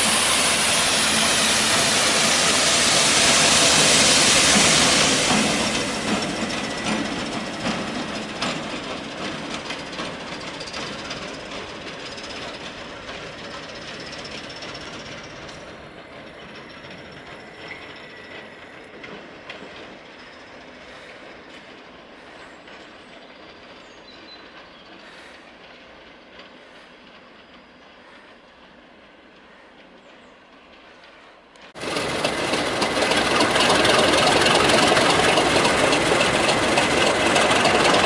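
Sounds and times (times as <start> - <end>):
train wheels clicking over rails: 0.0 - 38.0.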